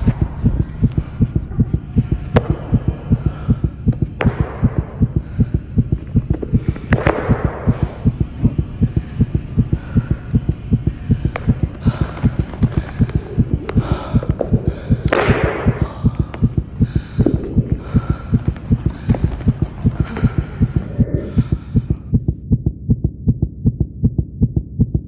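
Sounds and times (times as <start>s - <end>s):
heartbeat thumping: 0.0s - 25.0s.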